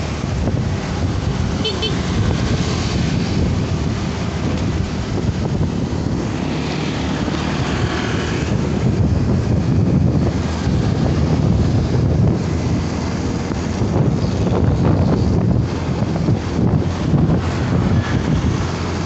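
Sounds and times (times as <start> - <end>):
motorcycle engine and road noise: 0.0 - 19.0
wind rushing over microphone: 0.0 - 19.0.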